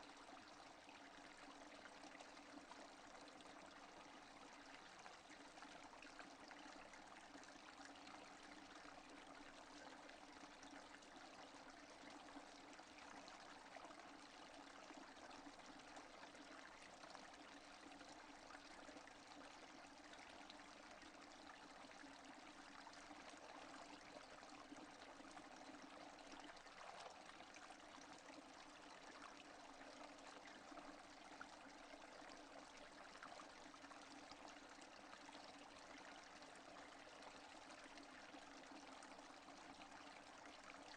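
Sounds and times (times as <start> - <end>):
faint steady rain: 0.0 - 40.9.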